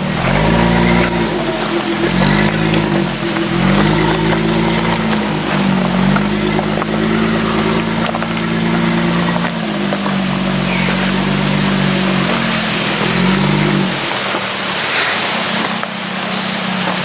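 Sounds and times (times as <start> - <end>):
car engine droning: 0.0 - 17.0
road noise: 0.0 - 17.0.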